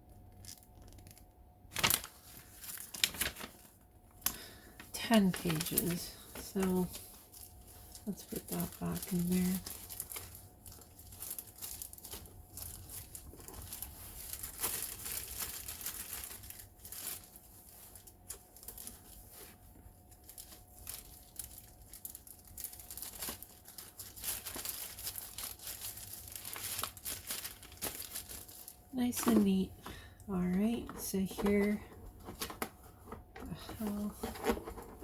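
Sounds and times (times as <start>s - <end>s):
plastic packaging crinkling: 0.2s - 35.0s.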